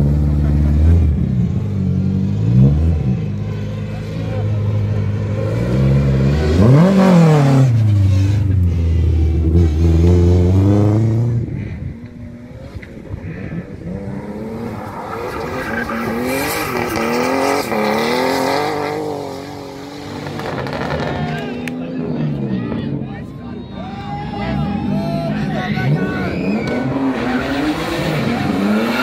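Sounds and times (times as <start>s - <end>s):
rally car engine revving: 0.0s - 23.0s, 24.5s - 29.0s
second rally car engine: 0.0s - 29.0s.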